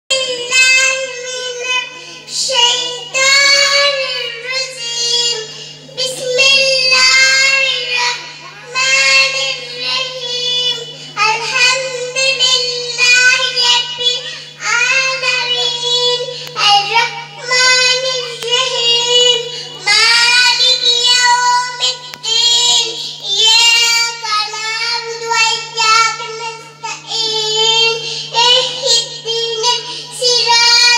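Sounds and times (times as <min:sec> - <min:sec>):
girl singing into a microphone: 0:00.1 - 0:30.9
steady low hum: 0:00.1 - 0:30.9.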